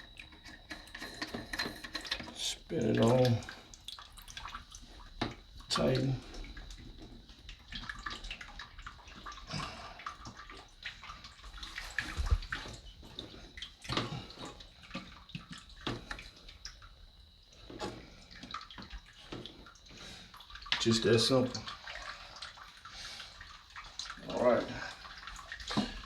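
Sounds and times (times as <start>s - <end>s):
water splashing in tank: 0.0s - 26.0s.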